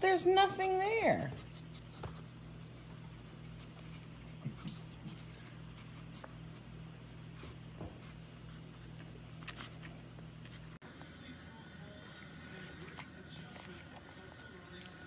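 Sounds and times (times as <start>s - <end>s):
steady low hum: 0.0s - 15.0s
puppy scratching blanket: 1.0s - 15.0s.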